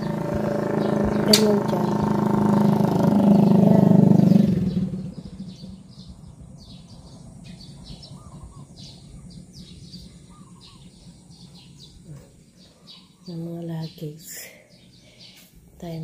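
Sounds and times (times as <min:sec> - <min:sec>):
motorcycle passing: 0:00.0 - 0:16.0
small birds chirping: 0:00.0 - 0:16.0.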